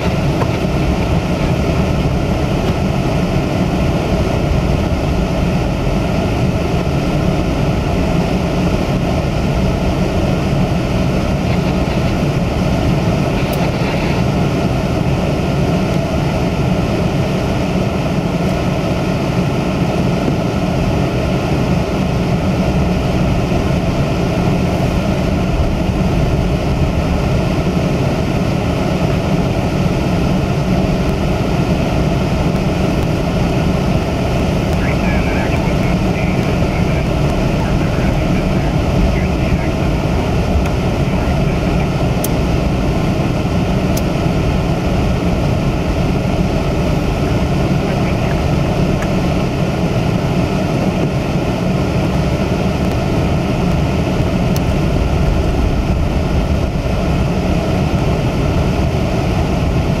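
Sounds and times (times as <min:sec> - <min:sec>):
car engine and tyre rumble: 0:00.0 - 1:00.0.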